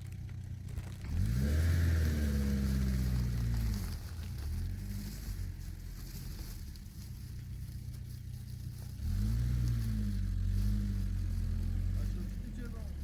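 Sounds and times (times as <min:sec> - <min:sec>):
car engine revving: 0:00.7 - 0:13.0.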